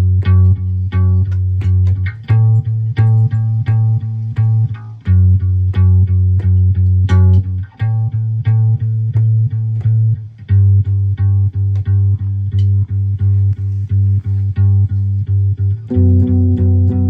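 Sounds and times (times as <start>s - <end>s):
electric bass plucked low notes: 0.0s - 17.0s.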